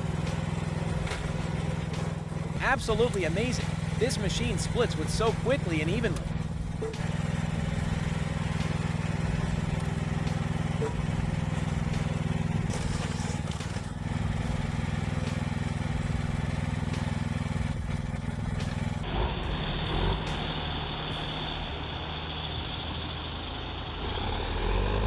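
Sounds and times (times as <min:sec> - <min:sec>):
hydraulic power unit humming: 0:00.0 - 0:23.5
heavy machinery engines running: 0:00.0 - 0:25.0.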